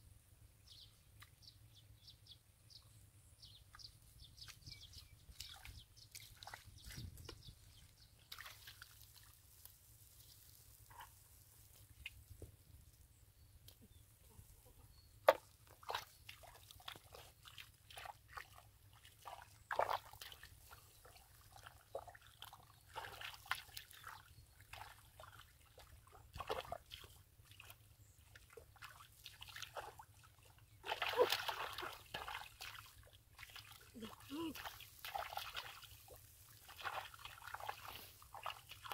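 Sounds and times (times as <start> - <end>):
feet and hands squelching in mud: 4.4 - 12.5, 13.7 - 38.9.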